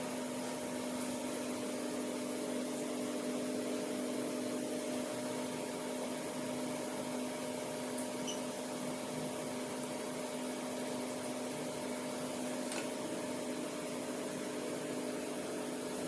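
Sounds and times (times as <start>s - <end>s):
electric machine hum: 0.0s - 16.0s.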